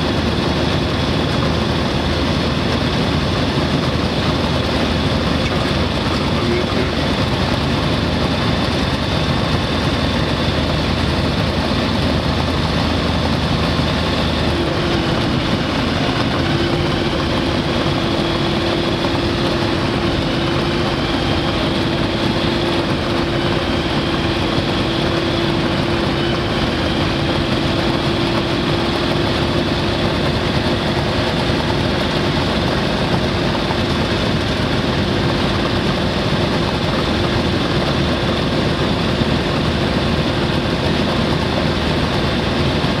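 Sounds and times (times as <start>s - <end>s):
light aircraft engine and propeller: 0.0s - 43.0s.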